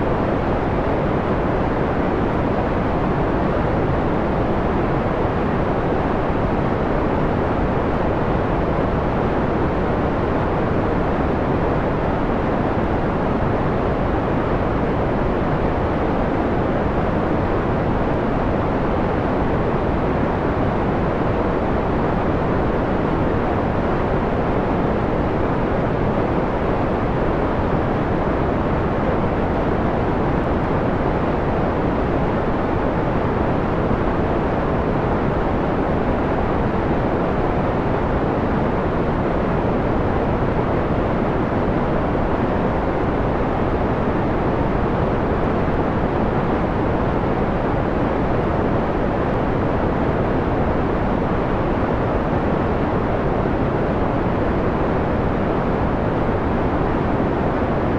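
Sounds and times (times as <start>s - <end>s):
low muffled filtered white noise: 0.0s - 57.9s.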